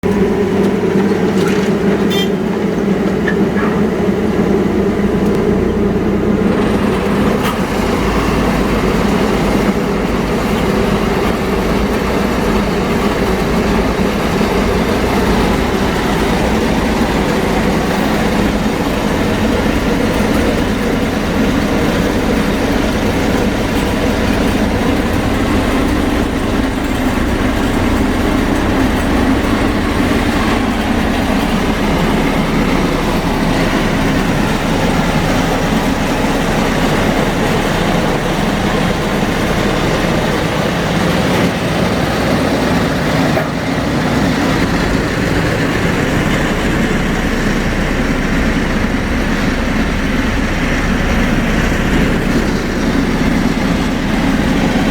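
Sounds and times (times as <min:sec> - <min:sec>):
mechanical rumble: 0:00.0 - 0:54.9.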